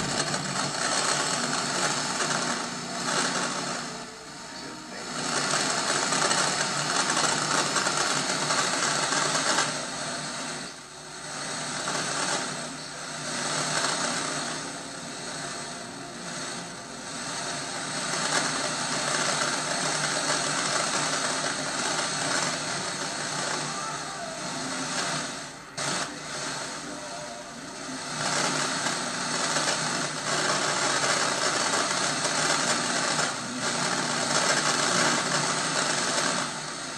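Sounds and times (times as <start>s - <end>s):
tv static hiss: 0.0s - 36.9s.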